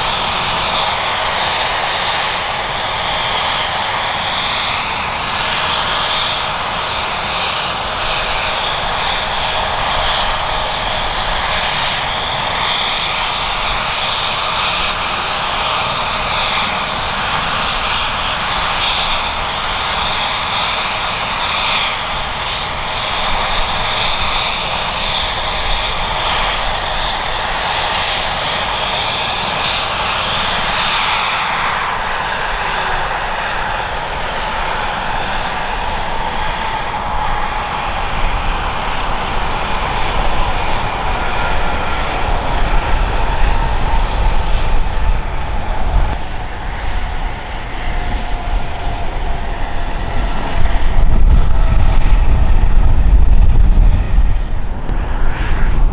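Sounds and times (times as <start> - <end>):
helicopter turbine whine: 0.0 - 55.9.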